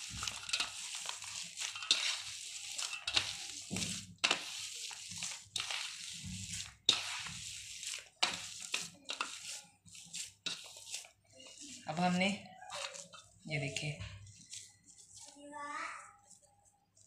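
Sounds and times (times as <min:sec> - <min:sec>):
hands kneading mashed potato: 0:00.0 - 0:15.5.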